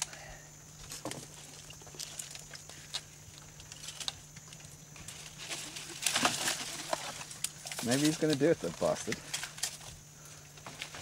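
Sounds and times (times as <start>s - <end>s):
twigs snapping: 0.8s - 10.0s.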